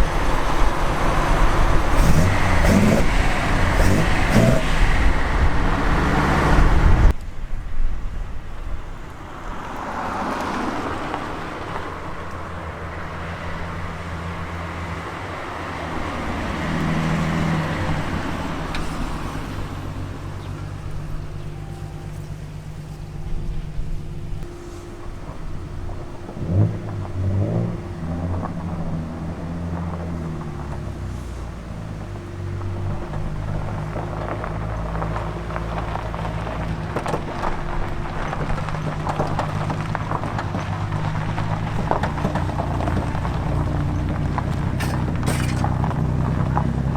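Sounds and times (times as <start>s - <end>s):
car engine running: 0.0s - 7.1s, 11.5s - 46.9s
road and traffic noise: 0.0s - 46.9s.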